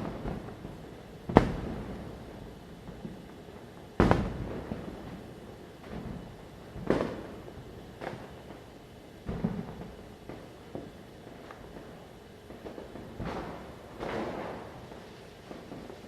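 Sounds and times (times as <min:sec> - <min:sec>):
firecrackers bursting: 0:00.0 - 0:16.0.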